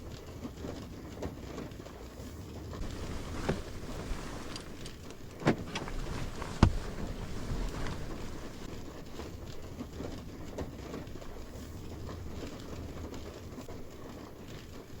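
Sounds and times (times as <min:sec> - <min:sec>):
rain pattering on a car: 0:02.8 - 0:15.0.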